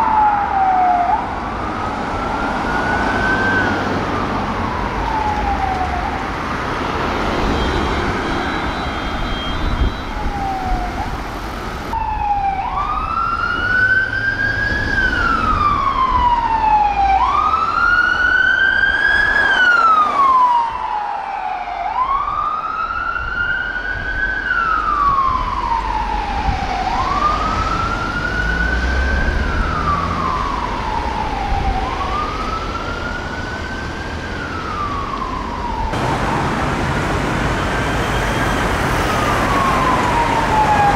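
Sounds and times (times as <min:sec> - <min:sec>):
police siren wailing: 0:00.0 - 0:40.9
traffic noise: 0:00.0 - 0:40.9.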